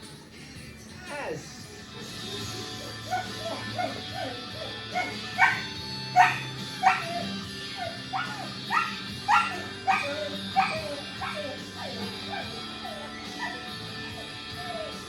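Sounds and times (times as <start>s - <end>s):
background music: 0.0s - 15.0s
puppy yipping and whimpering: 2.8s - 15.0s.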